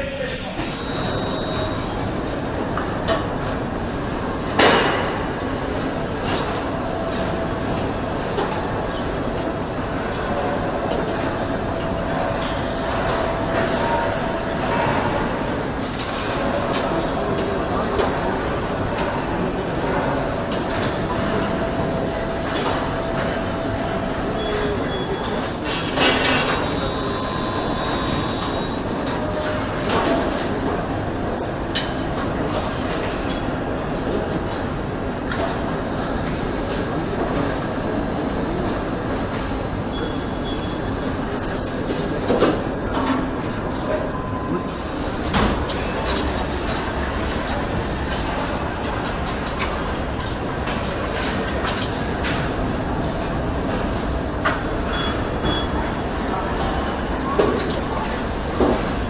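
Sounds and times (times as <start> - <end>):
high-pitched whine: 0.2 - 15.4, 16.4 - 30.2, 35.4 - 48.4, 50.6 - 59.0
assembly line machinery running: 0.4 - 59.0.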